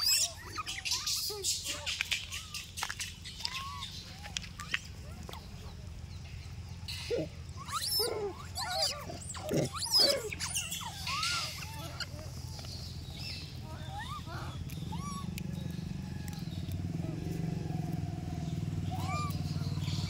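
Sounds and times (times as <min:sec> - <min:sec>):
monkeys cooing and squealing: 0:00.0 - 0:05.7, 0:06.9 - 0:20.0.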